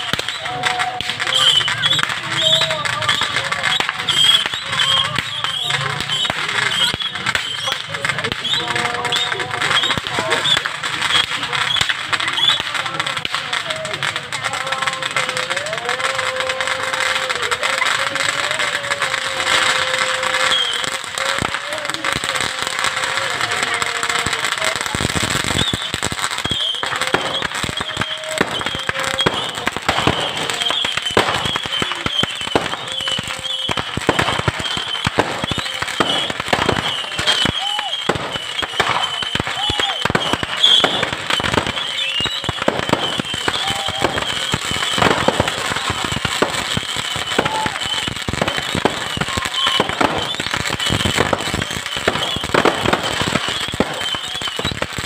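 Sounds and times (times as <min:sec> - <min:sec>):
faint voices: 0:00.0 - 0:55.0
fireworks and firecrackers banging: 0:00.0 - 0:55.0.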